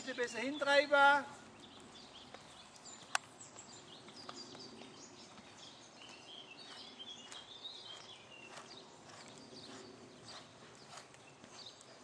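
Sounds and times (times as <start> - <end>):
outdoor background noise: 0.0 - 12.0
songbirds chirping and trilling: 0.0 - 12.0
horse hooves cantering on sand: 1.1 - 12.0.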